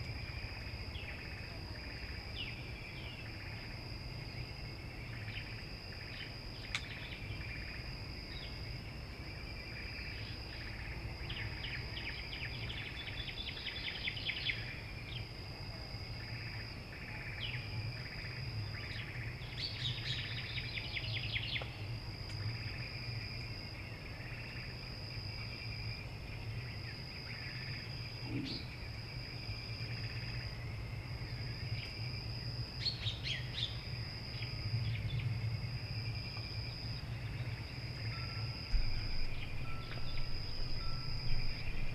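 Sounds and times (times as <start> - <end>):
insects trilling: 0.0 - 41.9
low steady hum: 0.0 - 41.9
rapid insect chirping: 0.0 - 41.9.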